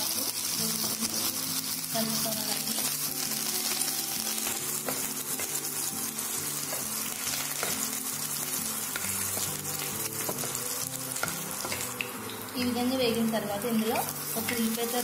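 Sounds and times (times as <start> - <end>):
chillies sizzling in hot oil: 0.0 - 15.0.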